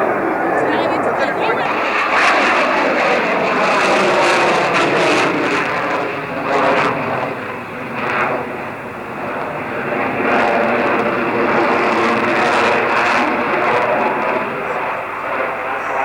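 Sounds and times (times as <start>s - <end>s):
fighter jet engine roar: 0.0s - 16.0s.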